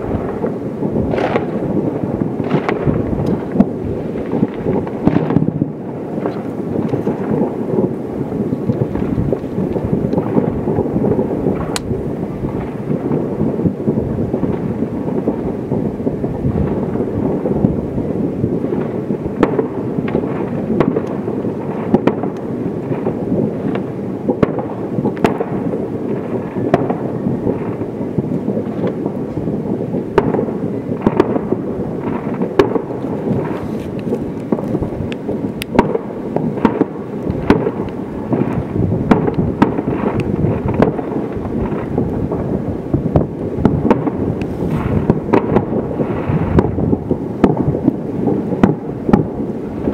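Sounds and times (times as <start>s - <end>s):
distant fireworks rumble: 0.0s - 49.9s
firecracker bangs: 0.0s - 49.9s.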